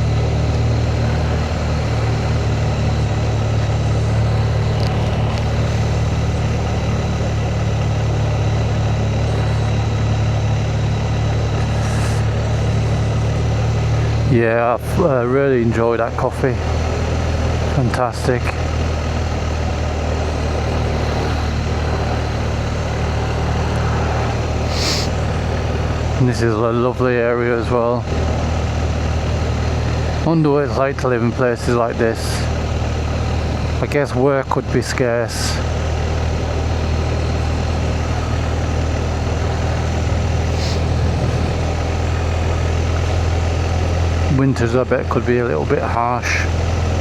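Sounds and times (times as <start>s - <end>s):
motorcycle engine running: 0.0s - 47.0s
wind and road noise: 0.0s - 47.0s.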